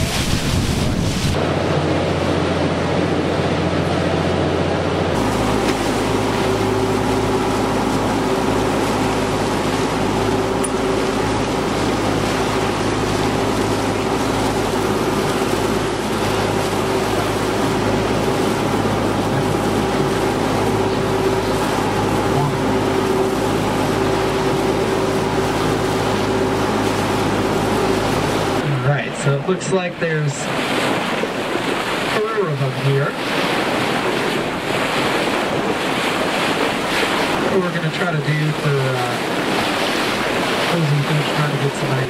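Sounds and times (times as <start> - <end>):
boat engines humming: 0.0 - 42.0
water rushing in wake: 0.0 - 42.0.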